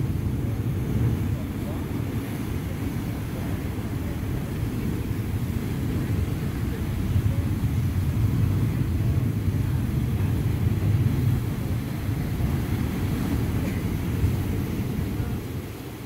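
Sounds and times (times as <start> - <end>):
geysers erupting: 0.0 - 16.0.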